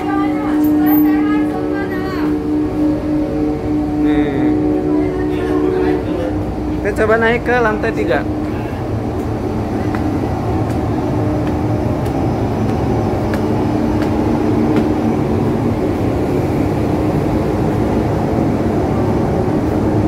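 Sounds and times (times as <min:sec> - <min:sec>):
ship engines droning: 0:00.0 - 0:20.0.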